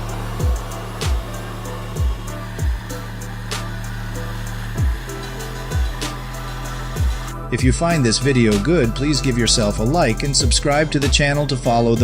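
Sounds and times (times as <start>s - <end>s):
sustained bass: 0.0s - 12.0s.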